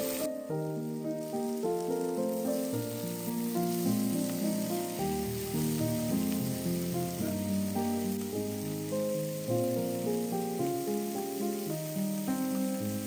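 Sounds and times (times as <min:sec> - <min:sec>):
food sizzling in a frying pan: 0:00.0 - 0:13.0
instrumental background music: 0:00.0 - 0:13.0.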